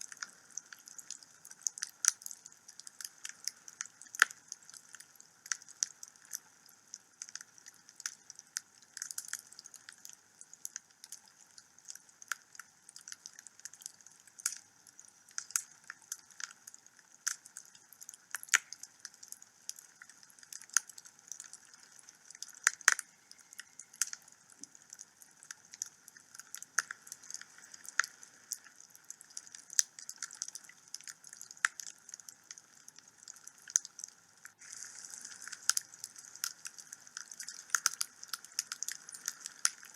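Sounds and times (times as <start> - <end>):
fire crackling and popping: 0.0 - 39.9
soft hiss of fire: 0.0 - 39.9.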